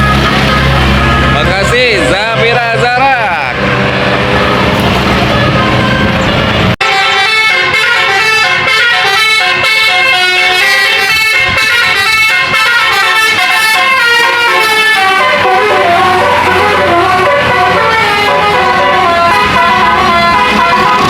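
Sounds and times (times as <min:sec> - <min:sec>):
musical multi-tone air horn: 0:00.0 - 0:21.0.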